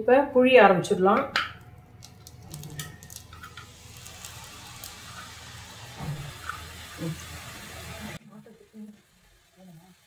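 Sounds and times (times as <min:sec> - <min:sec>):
hot oil sizzling: 0:01.5 - 0:10.0.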